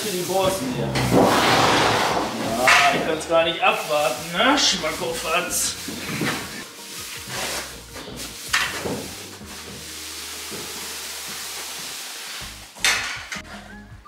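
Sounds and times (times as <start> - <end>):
hay swishing from pitchfork: 0.0 - 12.7
background music: 0.3 - 14.0.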